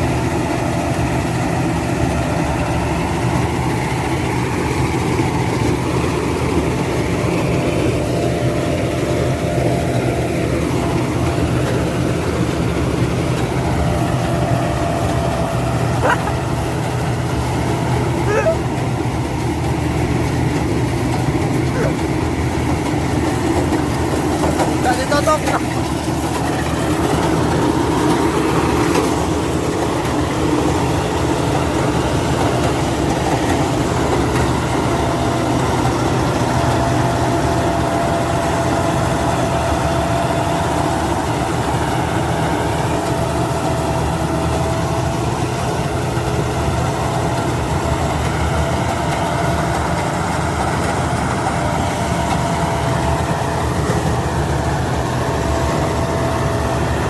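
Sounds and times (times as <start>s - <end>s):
harvester engine running: 0.0s - 57.0s.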